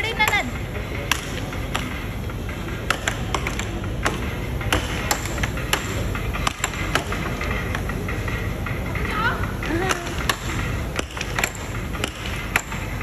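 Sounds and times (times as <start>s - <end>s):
air hockey puck clacking: 0.0s - 13.0s
steady background noise: 0.0s - 13.0s.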